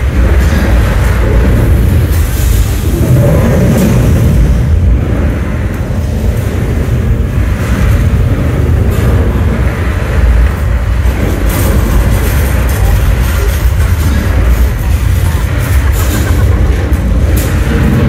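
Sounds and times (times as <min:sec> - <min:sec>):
deep earthquake rumble: 0:00.0 - 0:18.0.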